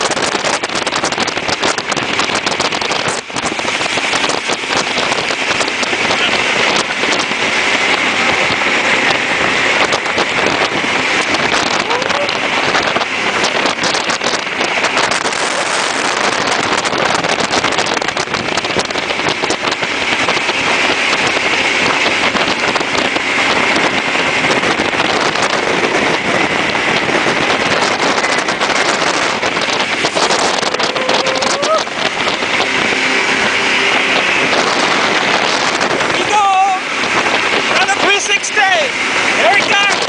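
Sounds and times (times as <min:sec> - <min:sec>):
boat engine: 0:00.0 - 0:40.0
water rushing: 0:00.0 - 0:40.0
wind buffeting microphone: 0:00.0 - 0:40.0.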